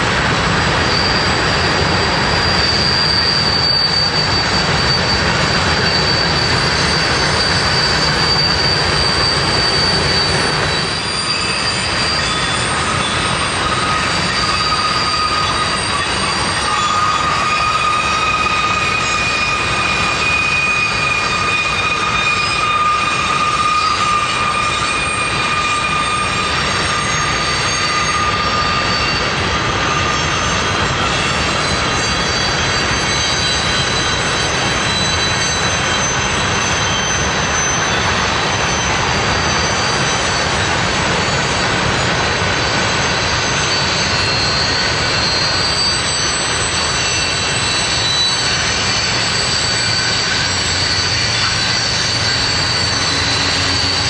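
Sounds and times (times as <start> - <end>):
freight train cars rumbling past: 0.0 - 54.0
thin wheel squeals: 0.3 - 54.0.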